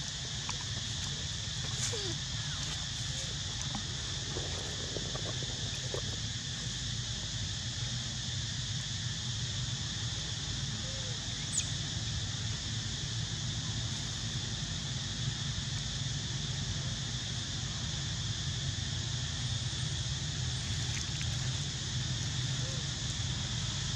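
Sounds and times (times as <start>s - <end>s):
high insect drone: 0.0s - 23.9s.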